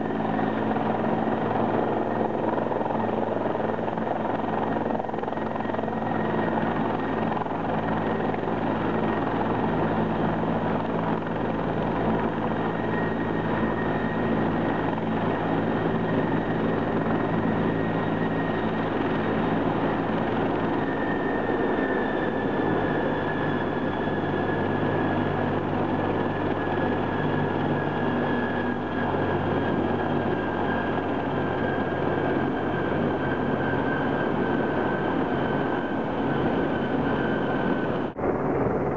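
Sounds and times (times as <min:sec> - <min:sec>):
helicopter rotor and turbine noise: 0:00.0 - 0:38.9
high turbine whine: 0:00.0 - 0:38.9.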